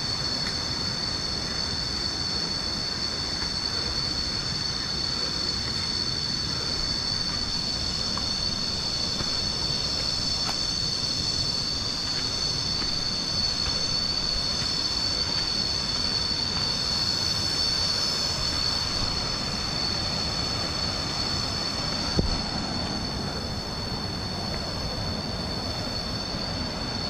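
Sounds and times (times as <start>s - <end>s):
cicadas buzzing: 0.0s - 27.0s.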